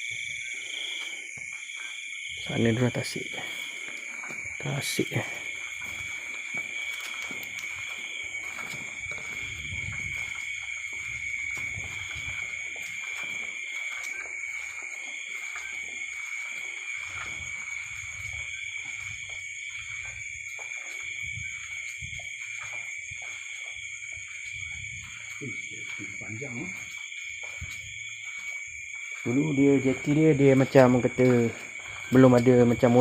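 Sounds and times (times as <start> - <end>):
insects chirring: 0.0 - 33.0
low rustling and scuffing: 3.4 - 33.0.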